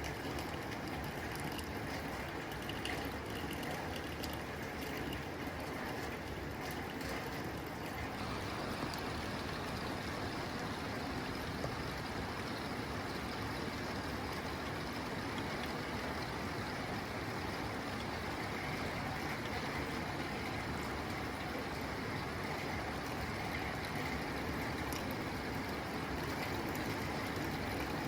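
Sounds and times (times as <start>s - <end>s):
rain on a tin roof: 0.0s - 28.0s.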